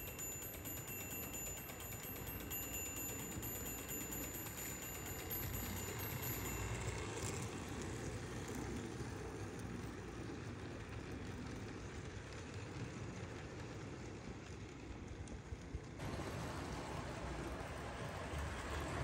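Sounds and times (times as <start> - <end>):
model locomotive whirring rumble: 0.0 - 19.0.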